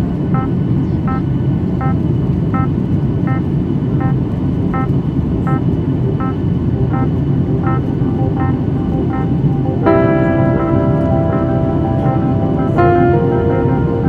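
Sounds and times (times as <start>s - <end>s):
aircraft cabin engine roar: 0.0s - 14.0s.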